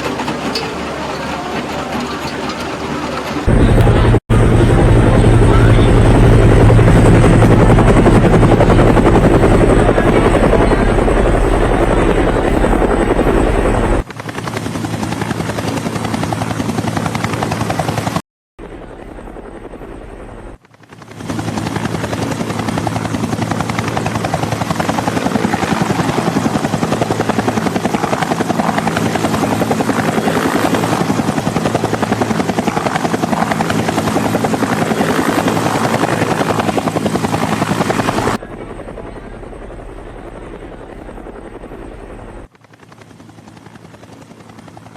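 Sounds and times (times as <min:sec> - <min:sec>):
helicopter rotor and engine: 0:00.0 - 0:44.9.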